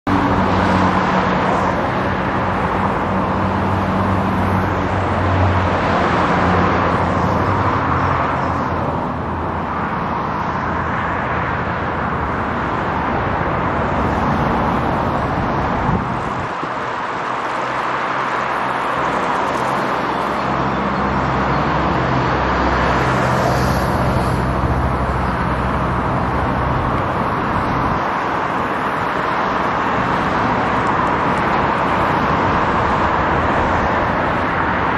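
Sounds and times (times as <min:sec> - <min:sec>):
passing engines hum: 0:00.0 - 0:34.9
tyres rushing on road: 0:00.0 - 0:34.9.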